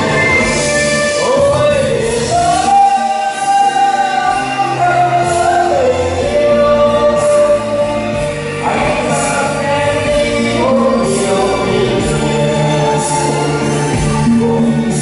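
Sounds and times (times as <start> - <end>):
musical accompaniment: 0.0 - 15.0
man and woman singing a duet: 1.1 - 15.0.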